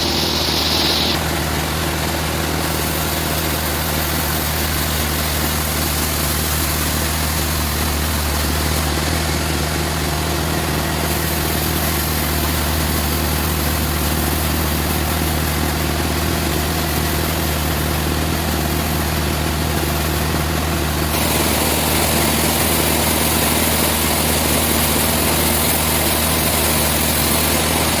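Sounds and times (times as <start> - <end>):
sawmill machinery humming: 0.0 - 28.0.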